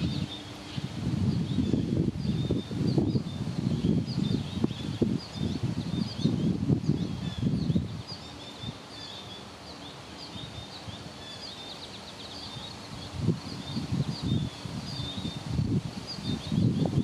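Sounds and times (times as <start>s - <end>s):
wind rumble on microphone: 0.0s - 9.2s, 12.2s - 17.0s
small birds chirping: 0.0s - 17.0s.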